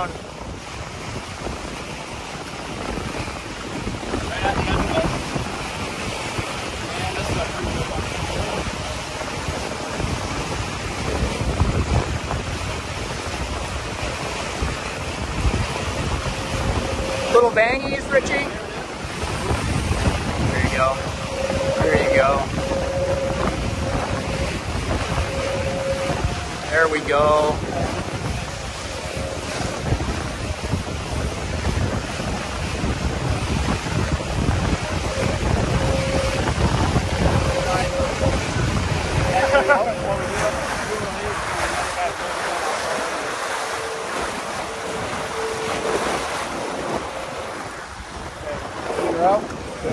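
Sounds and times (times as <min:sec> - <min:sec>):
water rushing along hull: 0:00.0 - 0:49.9
wind buffeting microphone: 0:00.0 - 0:49.9.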